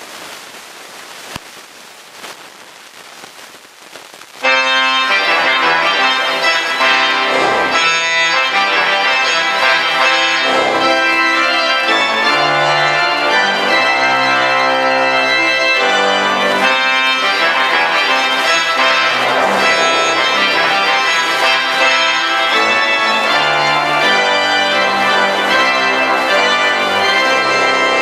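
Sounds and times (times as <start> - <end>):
pipe organ chords: 4.4 - 28.0.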